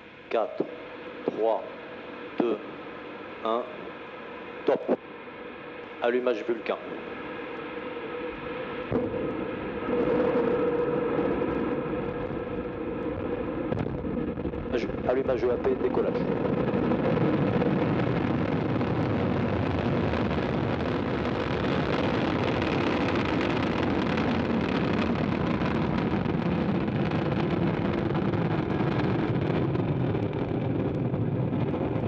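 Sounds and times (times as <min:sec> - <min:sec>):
rocket engine roar: 0:00.0 - 0:32.0.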